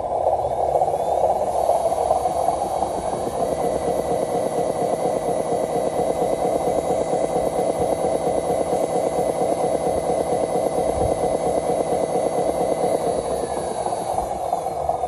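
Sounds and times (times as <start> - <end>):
high thin whine: 0.0 - 15.0
toy truck drive droning: 0.0 - 15.0.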